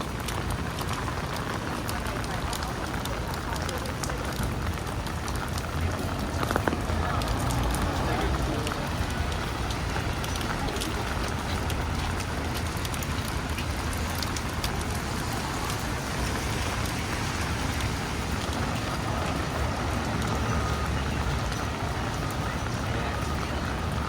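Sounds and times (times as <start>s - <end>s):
rain on a street: 0.0s - 24.0s
road traffic rumble: 0.0s - 24.0s.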